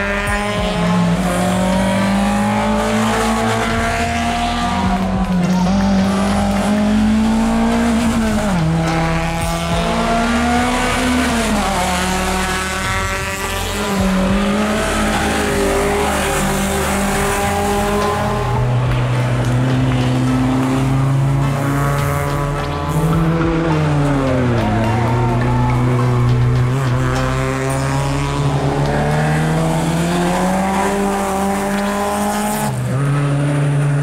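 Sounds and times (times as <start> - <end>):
race car engine at high revs: 0.0 - 34.0.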